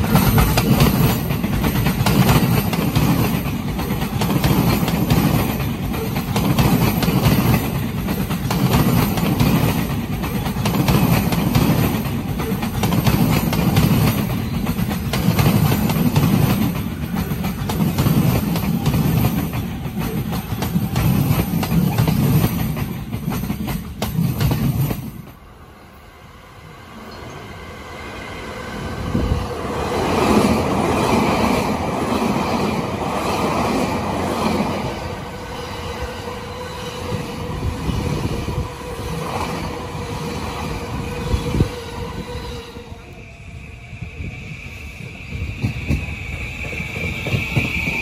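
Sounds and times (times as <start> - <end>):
electric train rumbling past: 0.0 - 48.0
express train passing close: 0.0 - 48.0.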